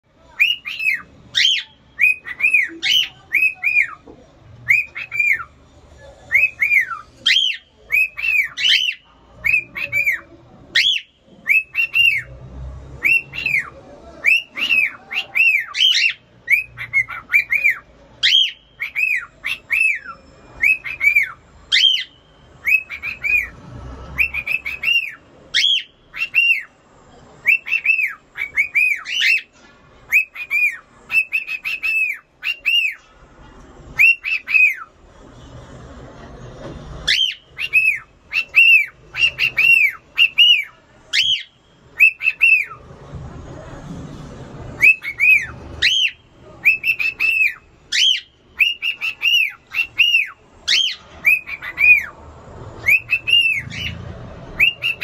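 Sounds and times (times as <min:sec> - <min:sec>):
cockatiel whistling: 0:00.4 - 0:04.0, 0:04.7 - 0:05.5, 0:06.3 - 0:12.3, 0:13.0 - 0:23.5, 0:24.2 - 0:26.7, 0:27.4 - 0:29.5, 0:30.1 - 0:33.0, 0:34.0 - 0:34.9, 0:37.0 - 0:42.8, 0:44.8 - 0:52.1, 0:52.8 - 0:54.0, 0:54.6 - 0:55.0.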